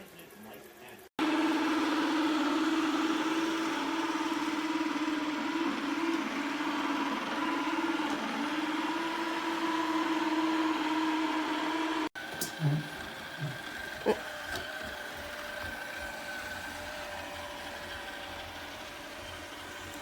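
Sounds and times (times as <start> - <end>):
robot vacuum cleaner running: 1.2 - 20.0.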